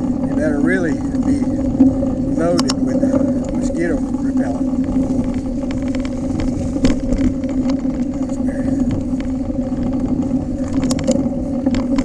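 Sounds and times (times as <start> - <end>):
bicycle clicks and knocks: 0.0 - 12.0
bicycle humming on dirt trail: 0.0 - 12.0.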